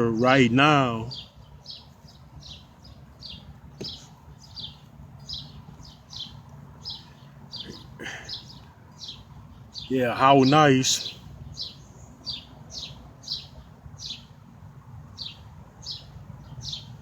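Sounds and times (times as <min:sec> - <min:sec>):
small bird chirping: 0:00.0 - 0:14.4, 0:15.1 - 0:17.0.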